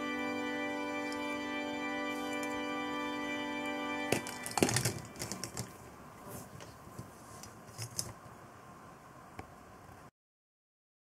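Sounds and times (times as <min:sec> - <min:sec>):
low steady hiss: 0:00.0 - 0:10.1.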